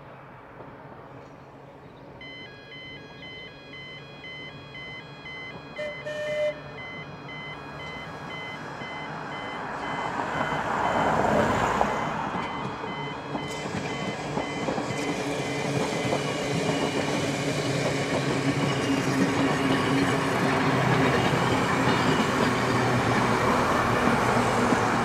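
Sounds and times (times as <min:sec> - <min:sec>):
train running noise: 0:00.0 - 0:25.0
two-tone level crossing alarm: 0:02.2 - 0:24.8.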